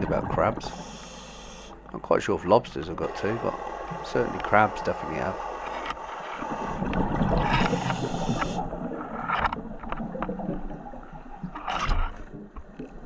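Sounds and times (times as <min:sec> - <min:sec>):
underwater bubbles gurgling: 0:00.0 - 0:13.0.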